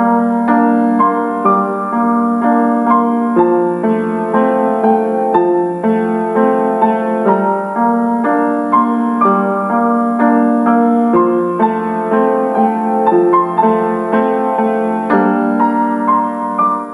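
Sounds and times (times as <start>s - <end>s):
piano music: 0.0s - 16.9s.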